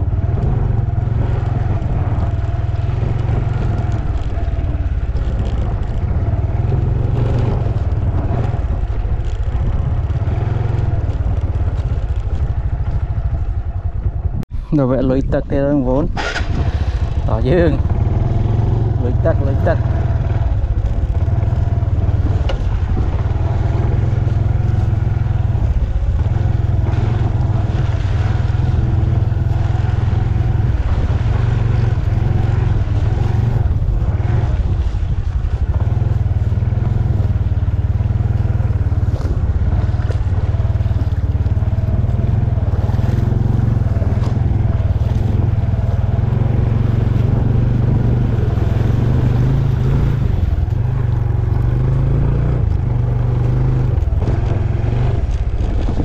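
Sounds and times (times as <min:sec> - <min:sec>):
scooter engine running: 0:00.0 - 0:14.7, 0:16.0 - 0:56.0
low rumble over rough track: 0:00.0 - 0:56.0.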